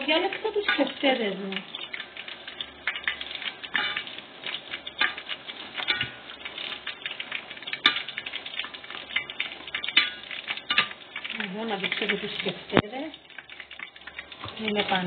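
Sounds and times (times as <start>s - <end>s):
meatballs frying in oil: 0.0s - 15.0s.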